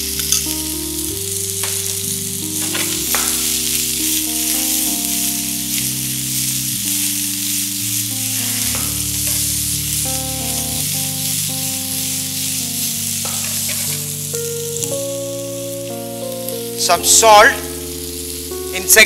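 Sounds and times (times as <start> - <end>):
beans sizzling in hot oil: 0.0 - 19.0
soft background music: 0.0 - 19.0.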